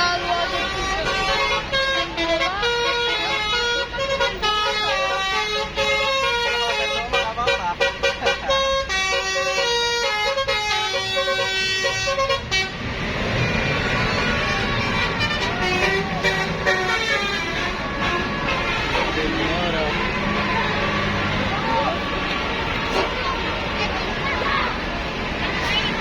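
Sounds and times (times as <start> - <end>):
multi-tone bus horn melody: 0.0 - 24.4.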